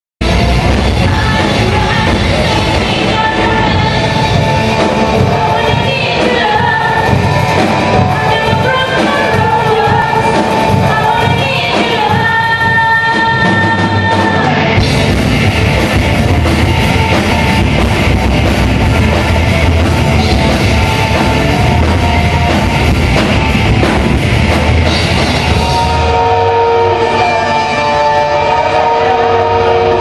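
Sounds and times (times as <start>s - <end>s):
live rock band playing: 0.2s - 30.0s.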